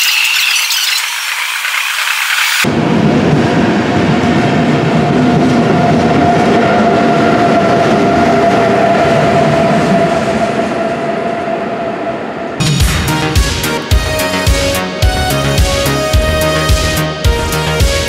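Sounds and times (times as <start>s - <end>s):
electric locomotive whine: 0.0s - 17.8s.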